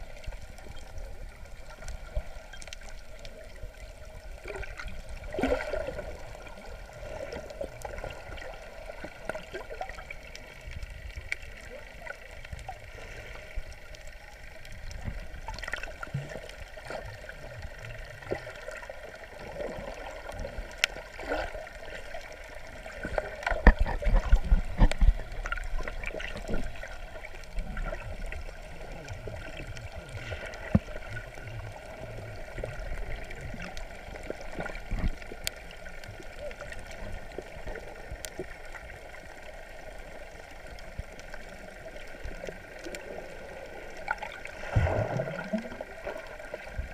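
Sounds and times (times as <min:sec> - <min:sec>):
water churning: 0:00.0 - 0:13.9, 0:14.7 - 0:46.9
muffled underwater gurgling: 0:00.0 - 0:46.9.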